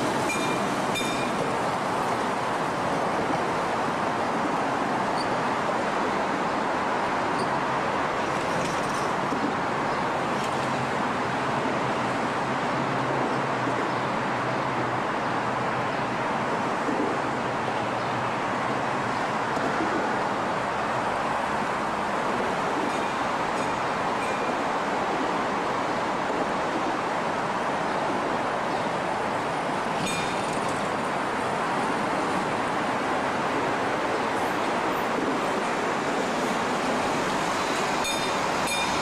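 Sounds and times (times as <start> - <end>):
traffic rush: 0.0 - 39.0.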